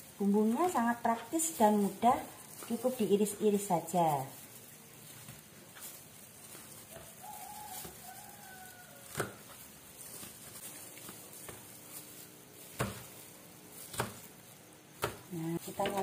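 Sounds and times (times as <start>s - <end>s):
gloved hand handling chillies: 0.0s - 16.0s.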